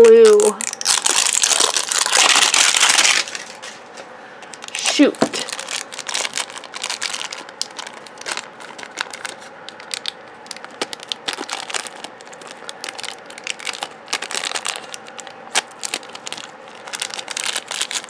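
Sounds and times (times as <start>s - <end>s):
plastic packet crinkling and tearing: 0.0s - 3.8s, 4.6s - 18.0s.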